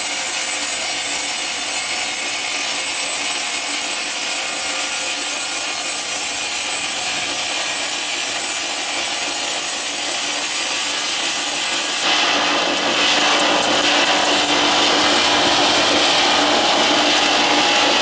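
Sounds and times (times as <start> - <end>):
power saw cutting wood: 0.0 - 18.0.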